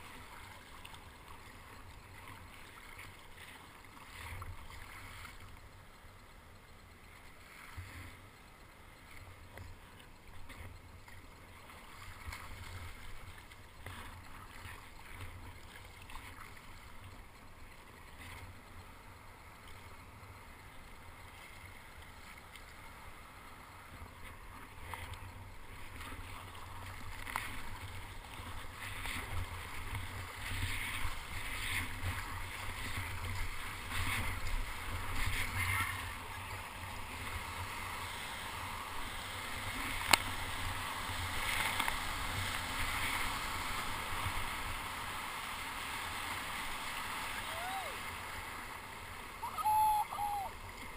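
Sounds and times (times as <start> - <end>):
water splashing against kayak: 0.0 - 50.9.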